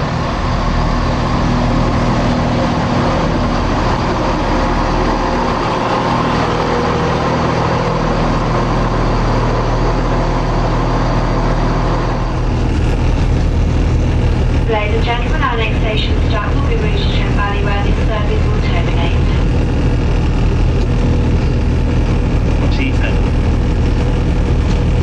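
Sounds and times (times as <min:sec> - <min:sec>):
diesel train engine running: 0:00.0 - 0:25.0.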